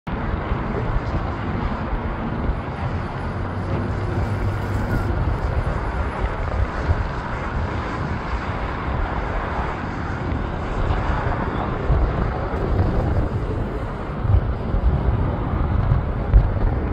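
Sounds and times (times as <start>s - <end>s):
jet roar overhead: 0.1s - 16.9s
wind buffeting microphone: 0.1s - 16.9s.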